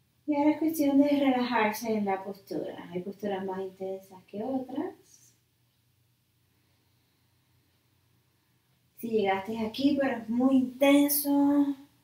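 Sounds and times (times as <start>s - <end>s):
faint hiss: 0.0s - 12.0s
low steady hum: 0.0s - 12.0s.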